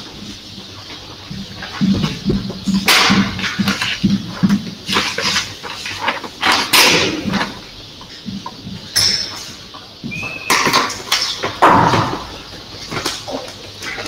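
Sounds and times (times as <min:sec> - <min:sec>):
knocks and rustling: 0:00.0 - 0:14.0.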